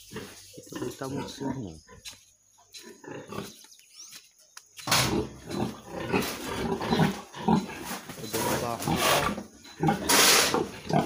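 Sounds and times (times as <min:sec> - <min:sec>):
pigs grunting: 0:00.0 - 0:02.1, 0:02.7 - 0:03.6, 0:04.8 - 0:11.0.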